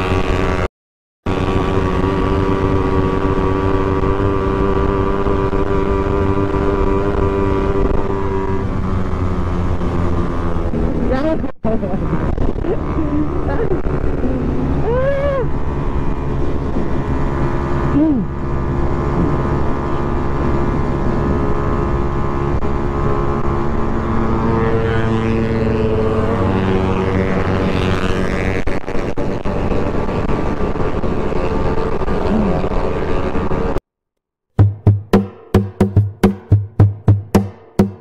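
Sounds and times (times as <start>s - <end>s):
wind and road noise: 0.0s - 33.9s
motorcycle engine running: 1.3s - 33.8s, 34.6s - 38.0s.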